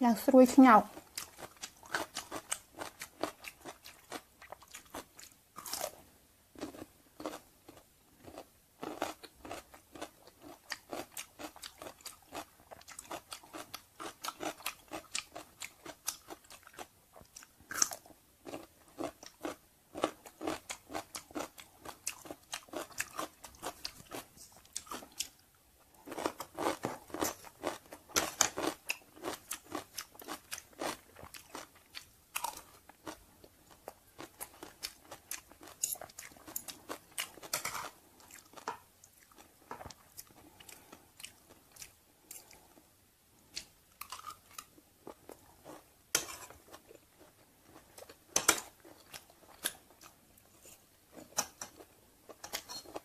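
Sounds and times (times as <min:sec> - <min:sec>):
crunching and chewing pickles: 0:00.9 - 0:53.0.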